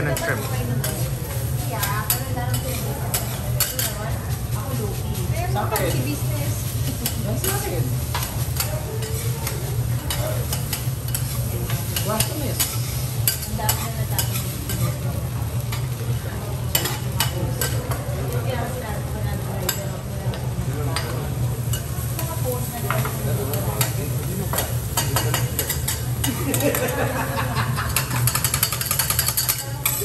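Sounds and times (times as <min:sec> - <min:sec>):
fried rice sizzling on griddle: 0:00.0 - 0:30.0.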